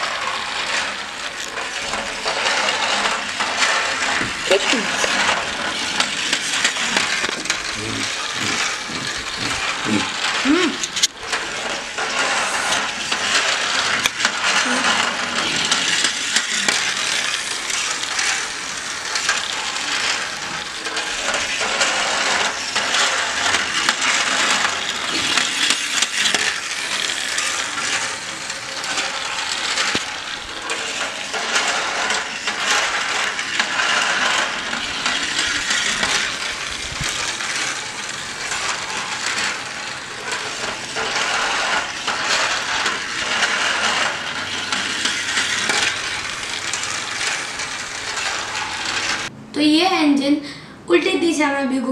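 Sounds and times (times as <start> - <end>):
toy train motor whirring: 0.0 - 49.3
toy train wheels clicking on track: 0.0 - 49.3.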